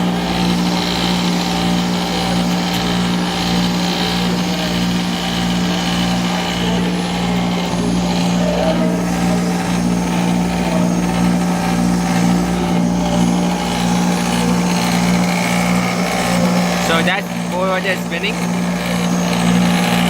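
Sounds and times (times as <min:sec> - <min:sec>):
generator humming: 0:00.0 - 0:20.0.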